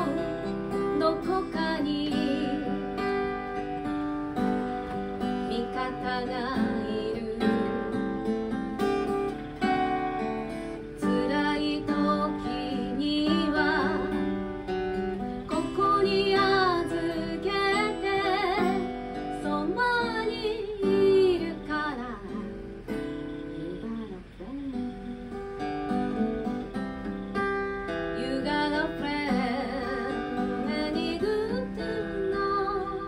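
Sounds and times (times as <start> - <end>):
woman singing: 0.0 - 25.7, 28.0 - 33.0
acoustic guitar strumming: 0.0 - 33.0.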